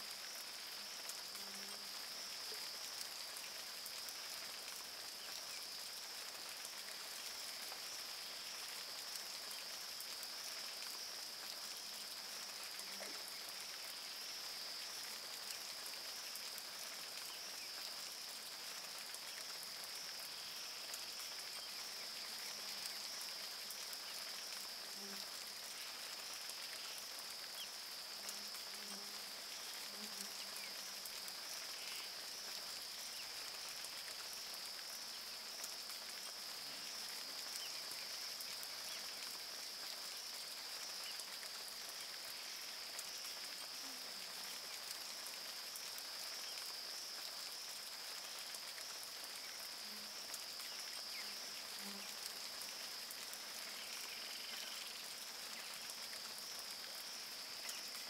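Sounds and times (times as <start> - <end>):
high-pitched insect chorus: 0.0 - 58.0
rain falling on river: 0.0 - 58.0.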